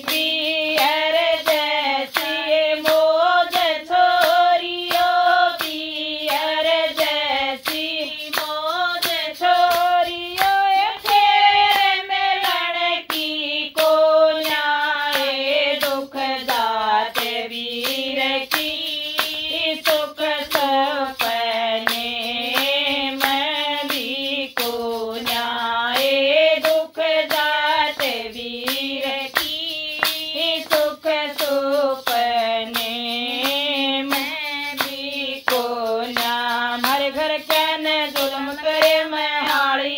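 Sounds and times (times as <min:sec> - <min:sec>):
hand claps: 0:00.0 - 0:39.9
woman singing folk song: 0:00.0 - 0:39.9.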